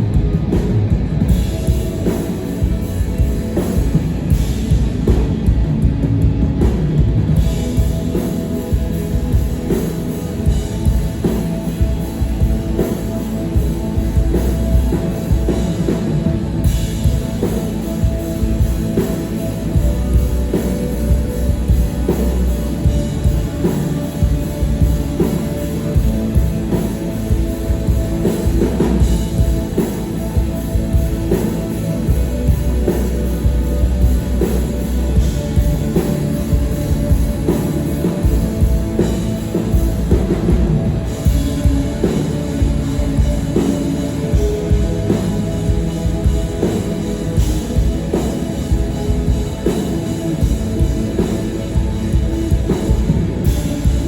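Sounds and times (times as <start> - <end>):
drum kit beat: 0.0 - 54.0
rock band playing live: 0.0 - 54.0.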